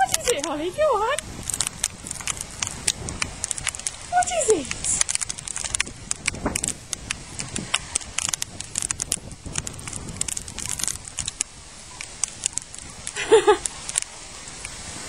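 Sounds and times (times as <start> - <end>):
puppy rustling on ground: 0.0 - 15.0.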